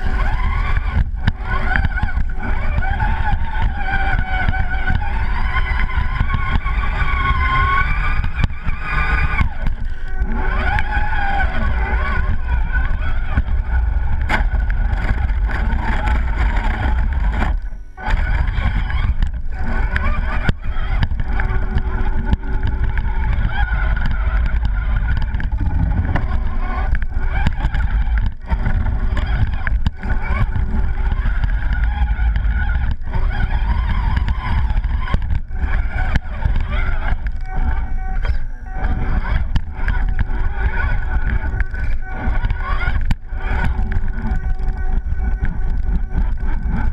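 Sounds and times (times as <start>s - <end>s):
rc truck motor and gears whining: 0.0s - 46.9s.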